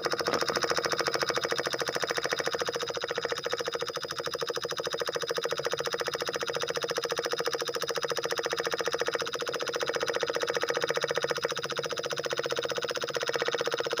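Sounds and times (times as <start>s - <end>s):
miniature engine chugging: 0.0s - 14.0s.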